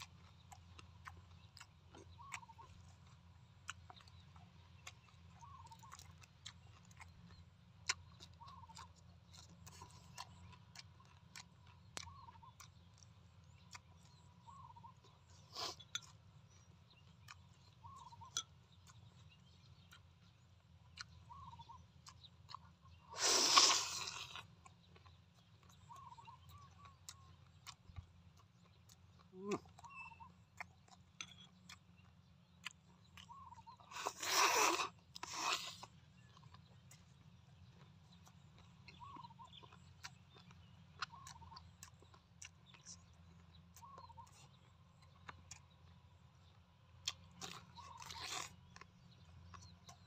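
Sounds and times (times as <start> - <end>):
faint bird chirps: 0.0 - 50.0
mouth clicks and chewing: 0.0 - 50.0.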